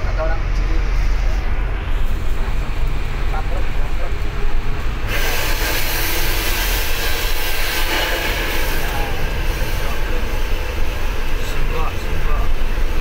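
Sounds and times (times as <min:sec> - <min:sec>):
bus engine rumble: 0:00.0 - 0:13.0
road and wind noise: 0:00.0 - 0:13.0.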